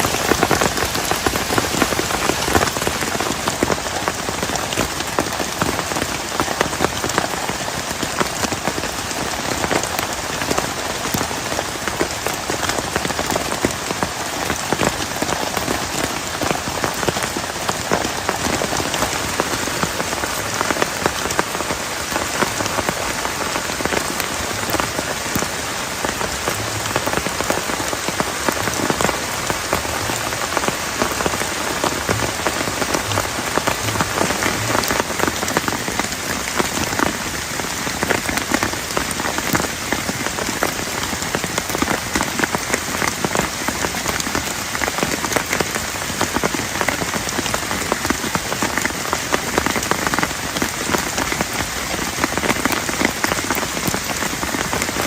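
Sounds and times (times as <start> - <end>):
heavy rain falling: 0.0 - 55.0
raindrops hitting a surface: 0.0 - 55.0.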